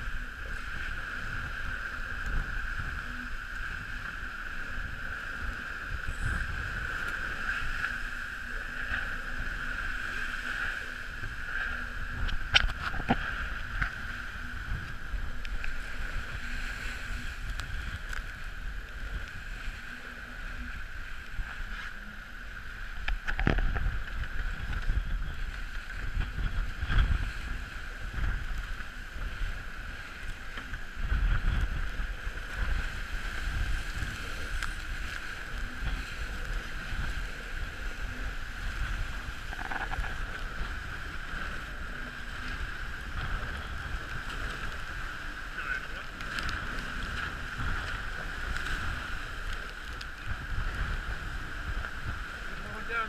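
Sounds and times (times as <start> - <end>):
rushing water: 0.0 - 53.0
wind buffeting microphone: 0.0 - 53.0.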